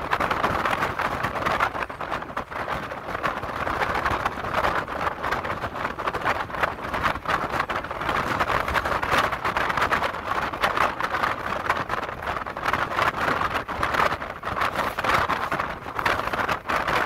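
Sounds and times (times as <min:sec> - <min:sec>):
rushing wind: 0:00.0 - 0:17.0.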